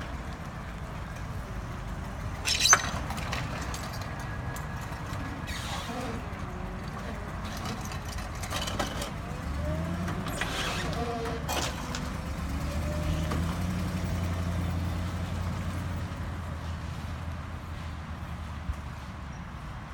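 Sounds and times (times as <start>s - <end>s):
tow truck engine running: 0.0s - 19.9s.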